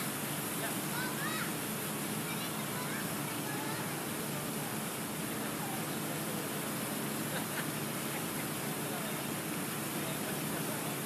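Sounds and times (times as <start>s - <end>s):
fountain water running: 0.0s - 11.0s.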